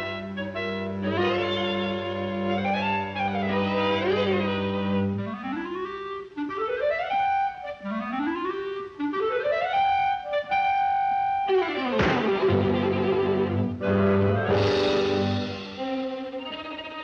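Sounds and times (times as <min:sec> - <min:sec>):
clarinet glissandi: 0:00.0 - 0:17.0.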